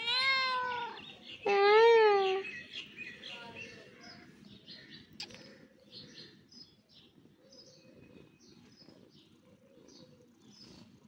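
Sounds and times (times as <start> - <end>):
faint bird chirping: 0.4 - 11.0.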